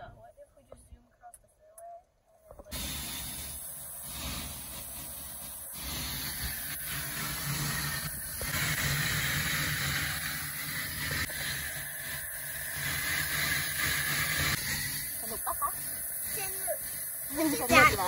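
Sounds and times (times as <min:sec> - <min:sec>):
vacuum suction hiss: 0:02.7 - 0:18.0.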